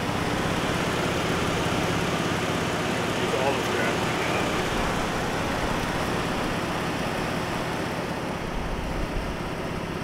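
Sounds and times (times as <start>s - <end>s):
pickup truck engine idling: 0.0s - 10.0s.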